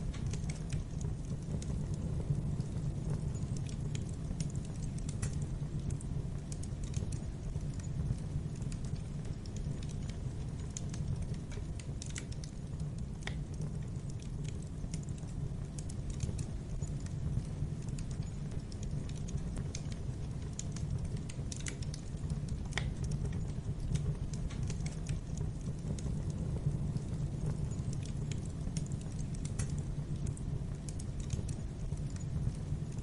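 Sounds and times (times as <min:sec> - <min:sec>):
rush of flames: 0:00.0 - 0:33.0
wood fire crackling and popping: 0:00.0 - 0:33.0.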